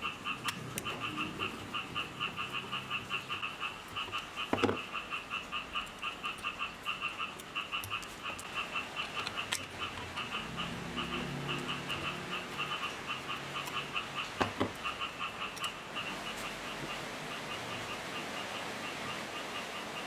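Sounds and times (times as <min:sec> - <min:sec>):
frog croaking: 0:00.0 - 0:20.0.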